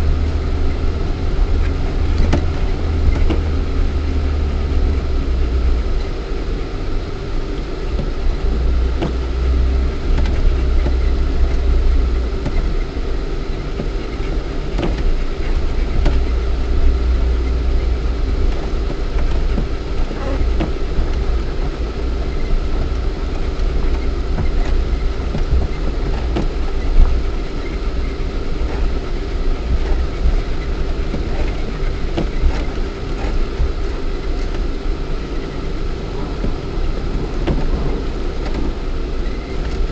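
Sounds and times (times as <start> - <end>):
car body and suspension rattling: 0.0 - 6.8, 7.4 - 39.9
car engine rumbling from inside cabin: 0.0 - 39.9.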